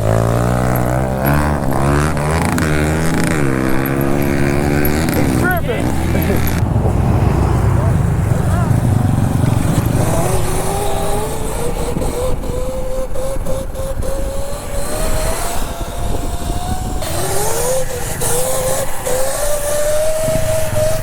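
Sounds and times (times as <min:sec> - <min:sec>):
dirt bike motor running: 0:00.0 - 0:21.0
low wind rumble: 0:00.0 - 0:21.0.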